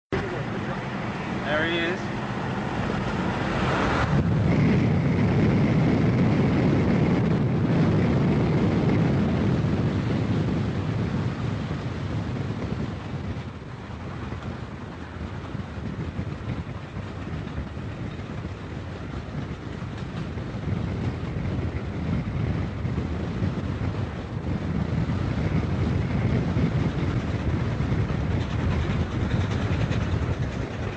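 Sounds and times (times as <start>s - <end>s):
rumble of vehicles: 0.1s - 30.9s
wind buffeting microphone: 0.1s - 30.9s.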